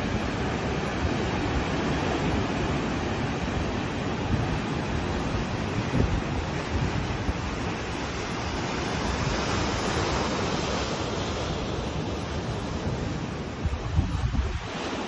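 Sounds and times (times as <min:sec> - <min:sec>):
ocean surf washing in: 0:00.0 - 0:15.0
wind buffeting microphone: 0:00.0 - 0:15.0.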